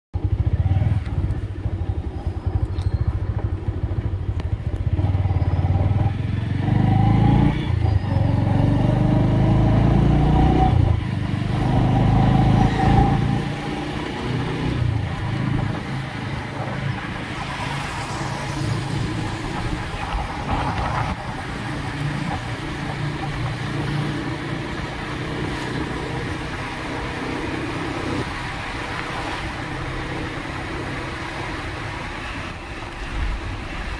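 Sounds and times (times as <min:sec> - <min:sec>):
motorcycle engine running: 0:00.2 - 0:28.6.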